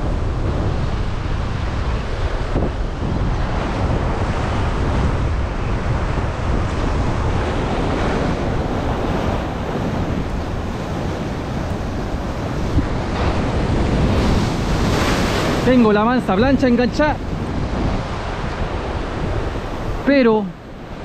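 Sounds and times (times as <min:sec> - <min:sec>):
ocean surf washing ashore: 0:00.0 - 0:21.0
wind buffeting microphone: 0:00.0 - 0:21.0.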